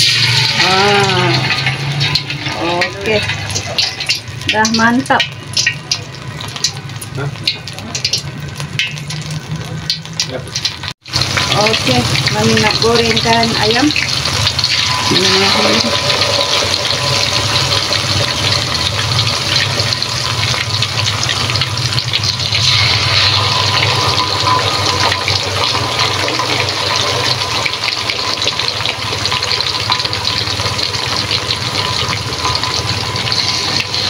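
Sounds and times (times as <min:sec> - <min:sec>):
chicken deep-frying in hot oil: 0:00.0 - 0:34.0.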